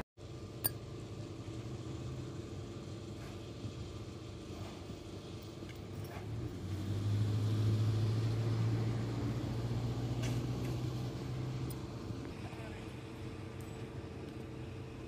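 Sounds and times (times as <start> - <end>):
vehicle engine humming: 0.2 - 15.0.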